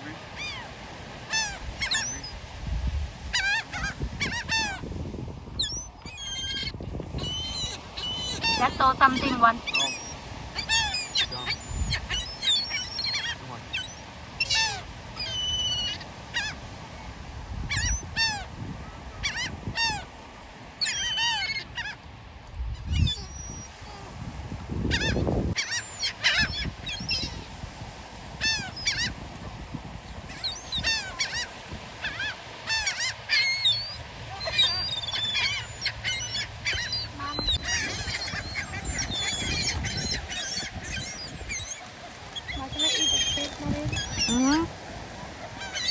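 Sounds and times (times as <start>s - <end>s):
flock of birds squawking: 0.0s - 2.5s, 3.2s - 5.0s, 5.6s - 16.7s, 17.6s - 20.2s, 20.8s - 22.1s, 24.7s - 27.6s, 28.4s - 45.9s.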